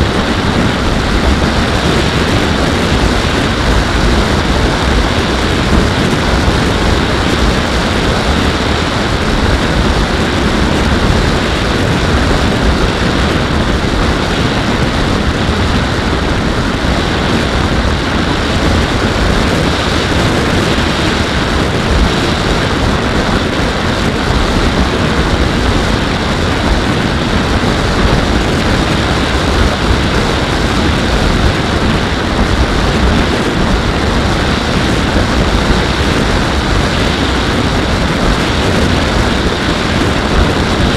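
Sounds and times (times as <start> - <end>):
airflow and propeller roar: 0.0 - 40.9.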